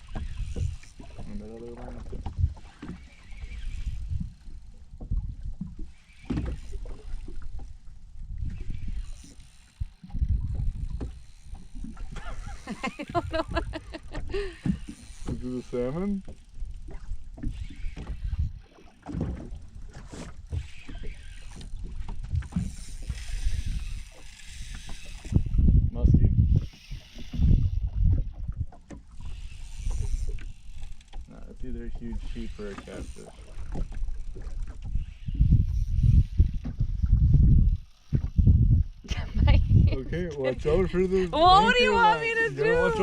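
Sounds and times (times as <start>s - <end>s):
wind rumbling on microphone: 0.0s - 15.7s, 16.3s - 43.0s
water lapping against boat hull: 0.0s - 43.0s.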